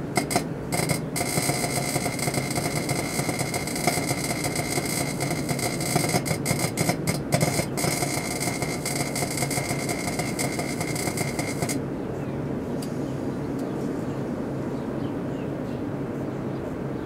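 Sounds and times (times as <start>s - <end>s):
microwave oven hum and fan: 0.0s - 17.0s.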